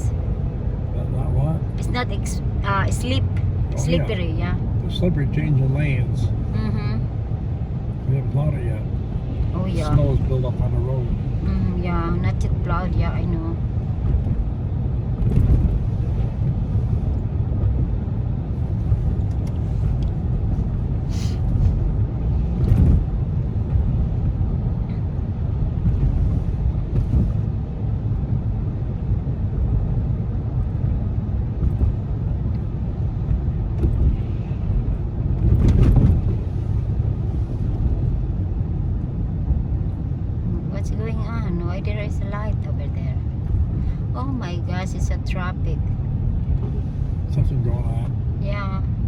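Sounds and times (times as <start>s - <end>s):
car driving rumble from inside: 0.0s - 49.0s.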